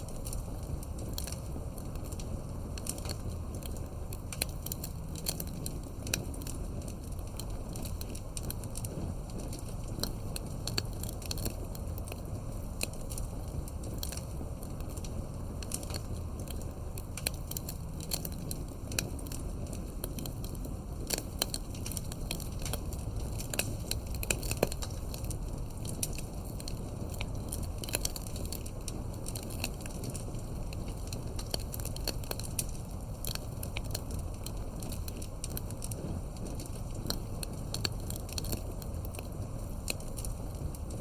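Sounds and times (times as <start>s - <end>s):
campfire crackling: 0.0s - 41.0s
low rumble of flames: 0.0s - 41.0s
wood snapping and popping: 0.0s - 41.0s.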